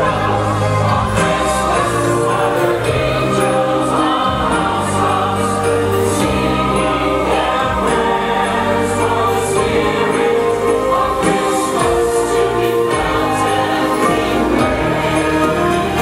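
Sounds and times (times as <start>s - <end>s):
choir singing a carol: 0.0s - 16.0s.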